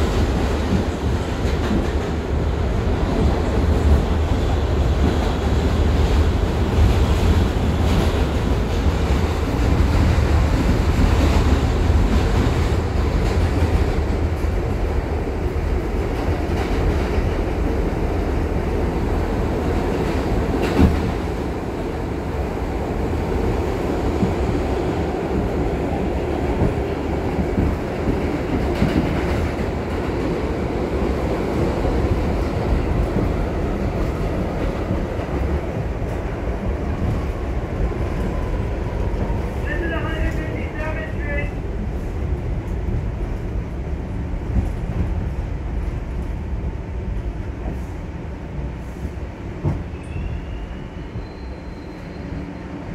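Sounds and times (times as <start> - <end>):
subway train rumbling and rattling: 0.0 - 52.9.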